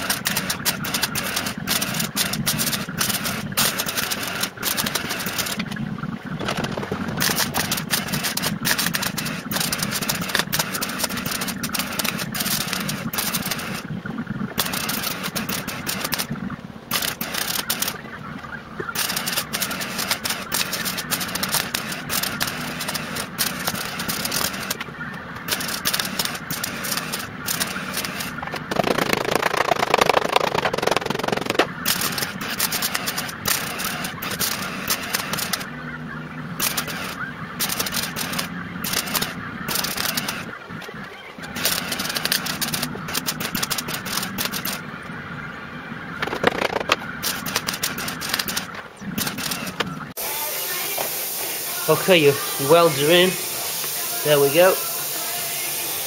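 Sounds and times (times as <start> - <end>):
mig welder crackling: 0.0 - 18.0, 18.9 - 35.7, 36.6 - 44.9, 46.2 - 56.0.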